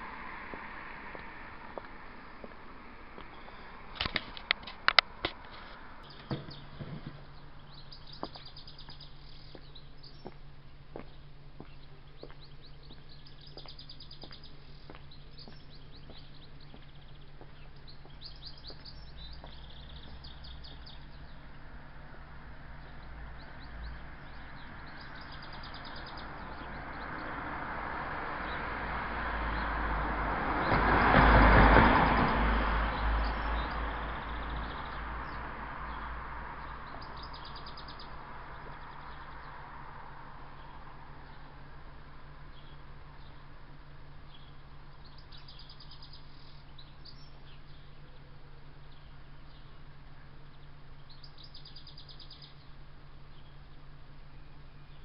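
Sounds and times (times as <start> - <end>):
vehicle passing: 0.0 - 11.4, 12.0 - 47.9
small birds chirping: 0.0 - 55.0.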